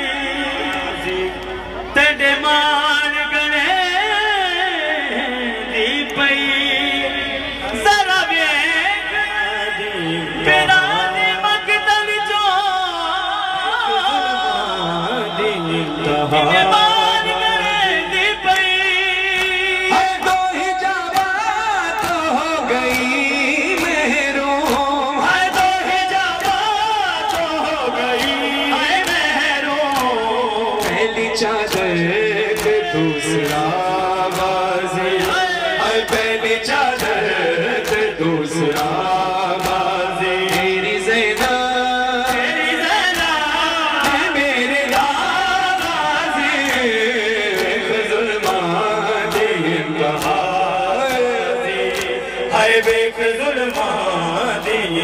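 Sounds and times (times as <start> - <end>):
man chanting through a microphone: 0.0 - 55.0
chorus of men chanting: 3.5 - 55.0.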